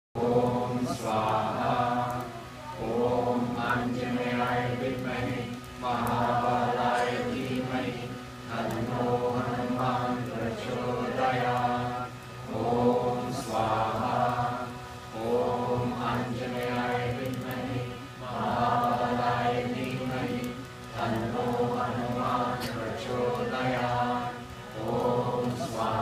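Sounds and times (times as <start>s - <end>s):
group chanting: 0.2s - 26.0s.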